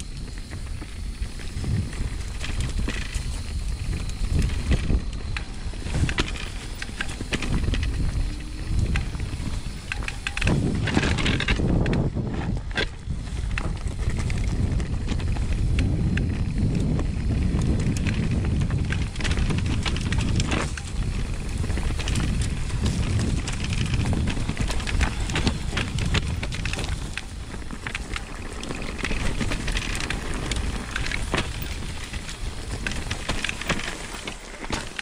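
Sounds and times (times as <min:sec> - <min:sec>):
bike rattles and knocks: 0:00.0 - 0:35.0
tyres rumbling on dirt and stones: 0:00.0 - 0:35.0
wind buffeting microphone: 0:00.0 - 0:35.0.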